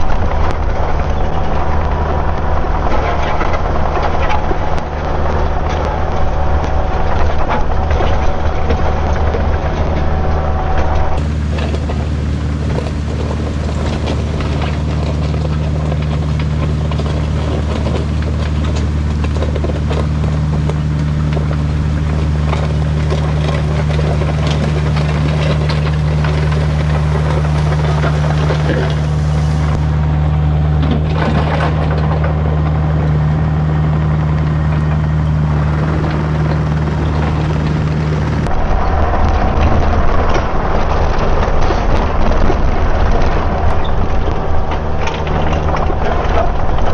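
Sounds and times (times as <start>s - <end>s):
diesel engine running under load: 0.0s - 46.9s
knocks and scrapes: 0.0s - 46.9s
rough clatter: 0.0s - 46.9s.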